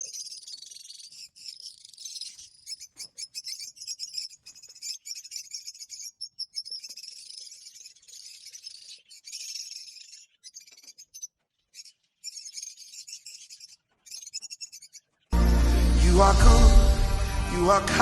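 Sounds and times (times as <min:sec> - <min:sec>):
bird chirping trills: 0:00.0 - 0:17.8.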